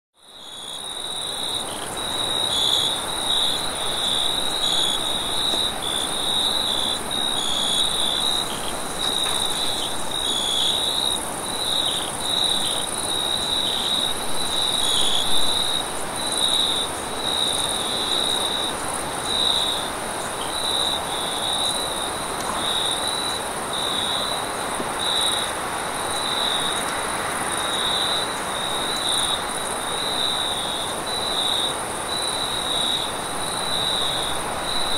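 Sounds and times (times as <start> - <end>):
crickets chirping: 0.2 - 34.9
high insect trill: 0.3 - 34.9.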